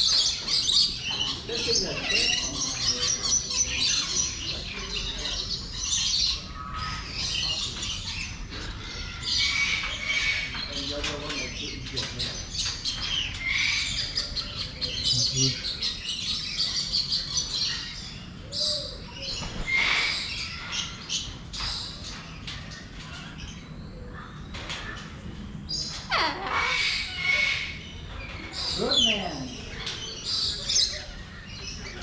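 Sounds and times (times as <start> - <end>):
many birds chirping and calling: 0.0 - 32.0.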